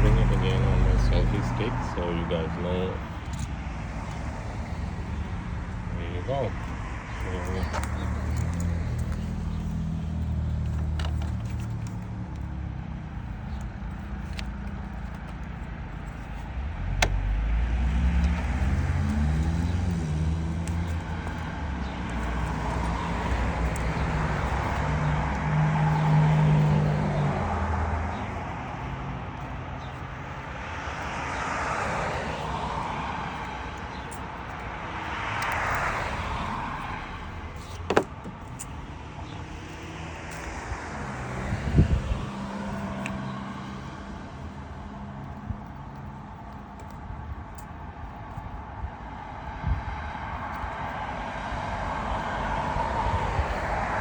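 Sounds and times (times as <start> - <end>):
low engine hum: 0.0 - 54.0
vehicles passing by: 0.0 - 54.0.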